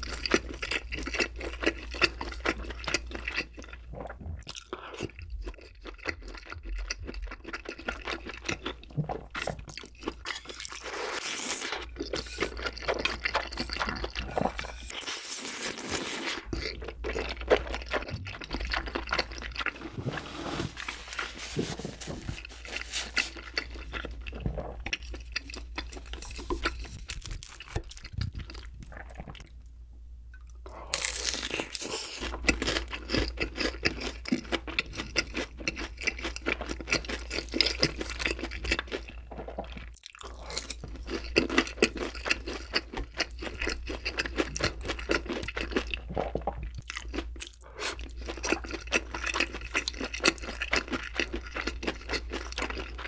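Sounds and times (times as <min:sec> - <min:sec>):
person chewing and crunching food: 0:00.0 - 0:29.7, 0:30.4 - 0:53.0.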